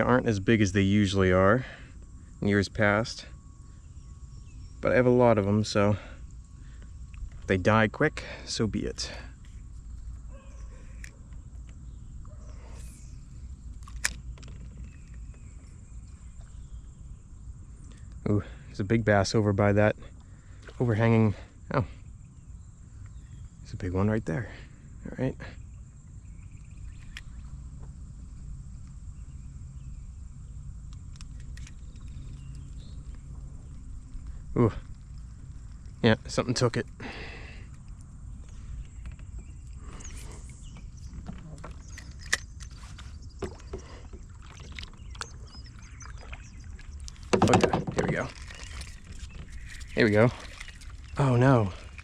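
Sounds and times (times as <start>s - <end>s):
steady low rumble: 0.0s - 47.3s.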